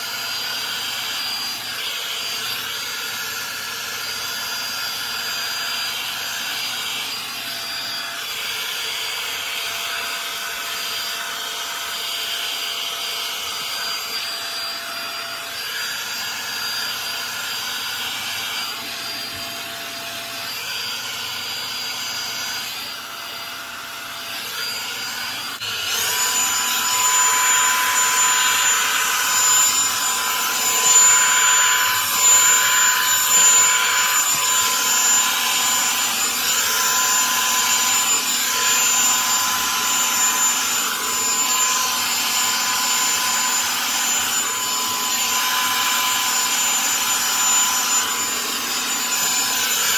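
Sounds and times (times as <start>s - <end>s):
hot-air brush dryer running: 0.0s - 49.9s.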